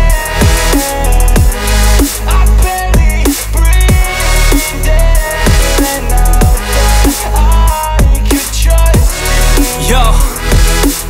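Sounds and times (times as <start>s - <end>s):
instrumental rap beat: 0.0s - 11.0s.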